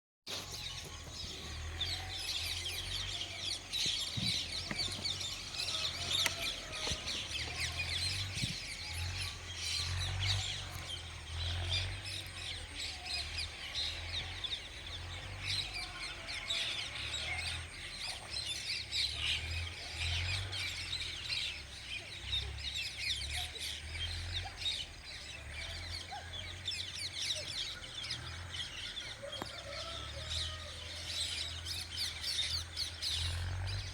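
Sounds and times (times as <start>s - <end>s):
low uneven rumble: 0.3s - 33.9s
small birds chirping: 0.3s - 33.9s.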